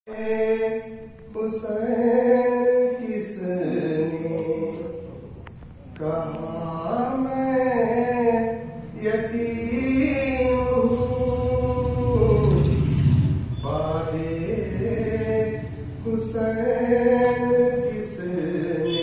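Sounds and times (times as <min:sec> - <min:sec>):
man chanting a lament: 0:00.1 - 0:05.4, 0:06.0 - 0:12.9, 0:13.6 - 0:19.0.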